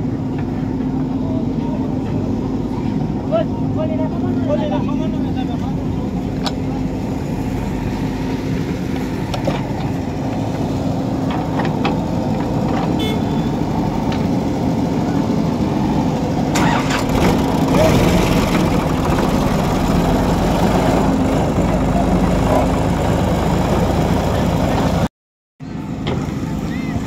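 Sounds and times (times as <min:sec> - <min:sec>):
backhoe loader diesel engine: 0:00.0 - 0:27.0
tractor diesel engine: 0:00.0 - 0:27.0.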